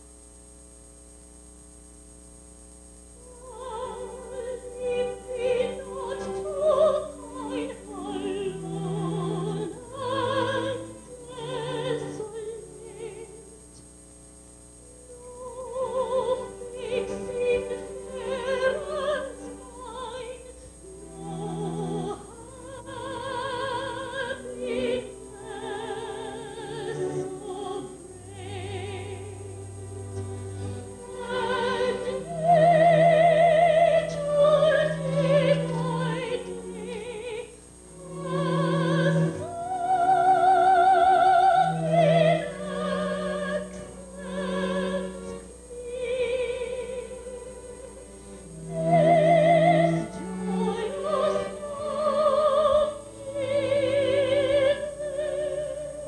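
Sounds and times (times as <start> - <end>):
operatic singing with vibrato: 3.2 - 13.6, 15.1 - 56.0.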